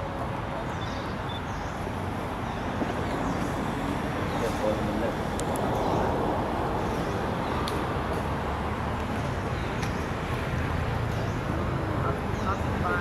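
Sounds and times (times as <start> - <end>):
continuous rumble and hiss: 0.0 - 13.0.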